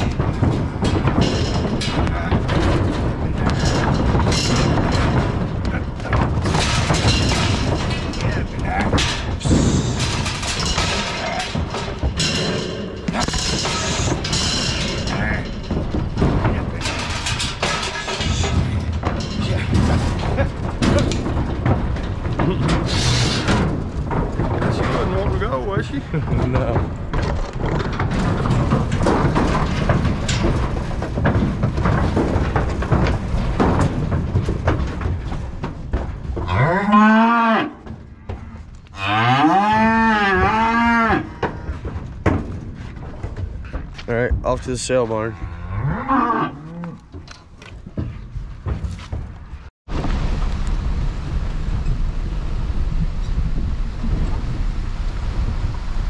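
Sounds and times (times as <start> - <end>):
animals bumping metal sides: 0.0 - 50.0
hooves thumping and gate knocking: 0.0 - 56.0.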